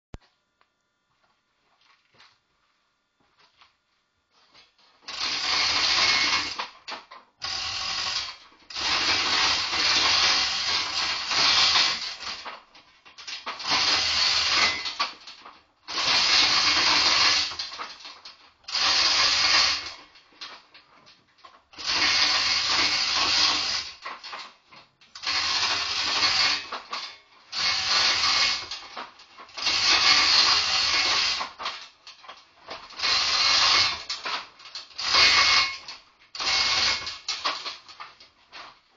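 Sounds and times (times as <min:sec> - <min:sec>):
chain clattering through hoist: 0:05.1 - 0:38.8.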